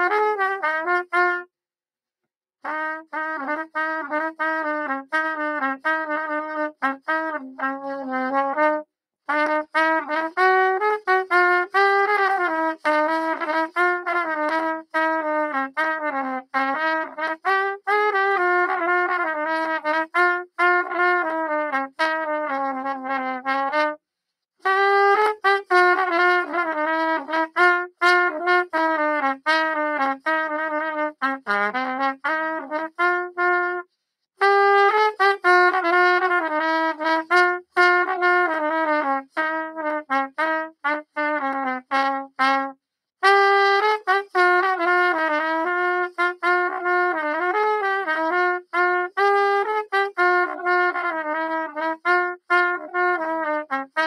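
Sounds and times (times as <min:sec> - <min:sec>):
solo brass instrument melody: 0:00.0 - 0:01.6, 0:02.6 - 0:24.0, 0:24.6 - 0:54.0.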